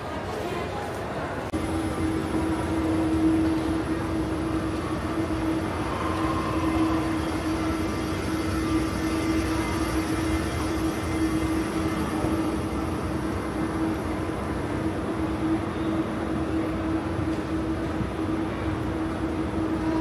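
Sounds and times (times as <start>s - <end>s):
mechanical hum with droning tone: 0.1s - 20.0s
dense rushing background: 1.5s - 20.0s.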